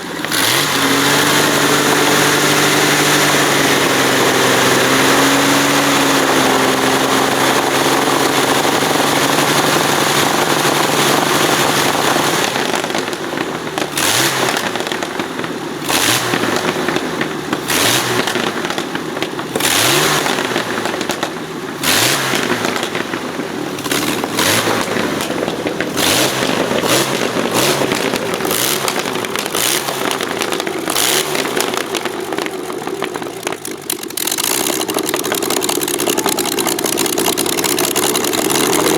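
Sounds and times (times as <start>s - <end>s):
aircraft engine running and blipping: 0.0s - 38.9s.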